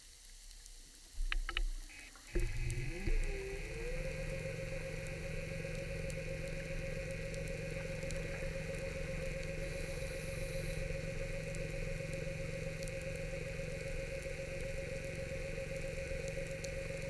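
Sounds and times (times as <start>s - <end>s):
faint clicks: 0.2s - 17.0s
electric motor running underwater: 2.3s - 17.0s.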